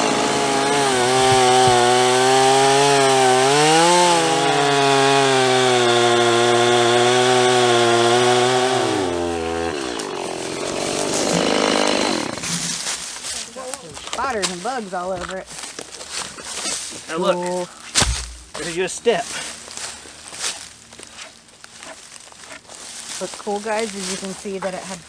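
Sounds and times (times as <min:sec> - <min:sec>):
chainsaw cutting stump: 0:00.0 - 0:25.0.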